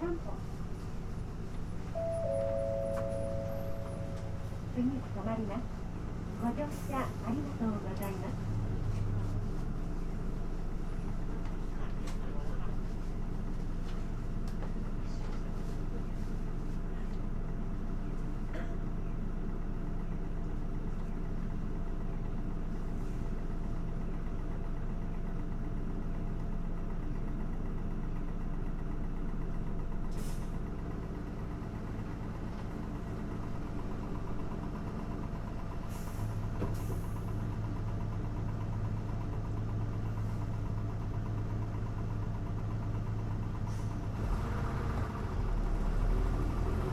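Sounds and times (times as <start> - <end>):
bus diesel engine idling: 0.0 - 46.9.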